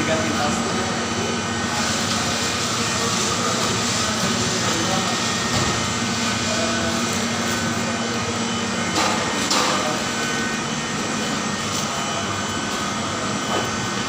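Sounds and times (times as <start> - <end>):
loud machinery hum: 0.0 - 14.0.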